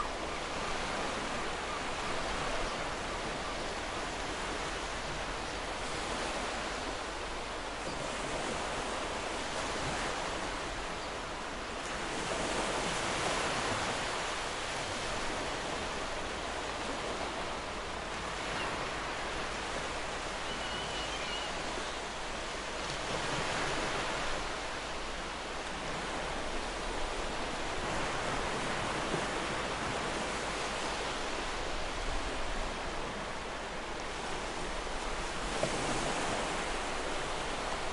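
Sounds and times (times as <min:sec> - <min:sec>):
ocean waves on beach: 0:00.0 - 0:37.9.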